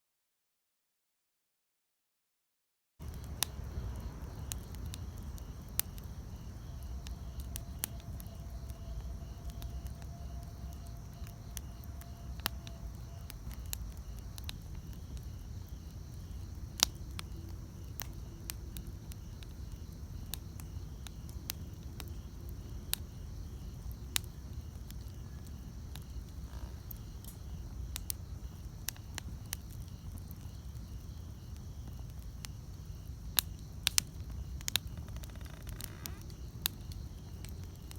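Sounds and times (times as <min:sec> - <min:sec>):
campfire crackling and popping: 0:03.0 - 0:37.9
insect chirring: 0:03.0 - 0:37.9.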